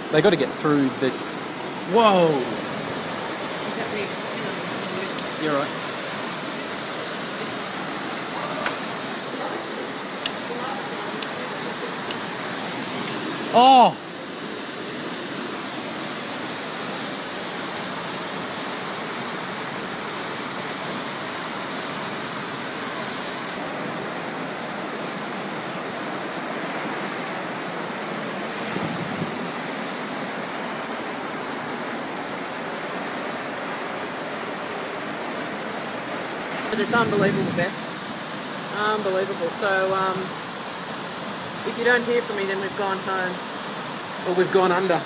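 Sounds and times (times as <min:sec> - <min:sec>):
flood water rushing: 0:00.0 - 0:45.0.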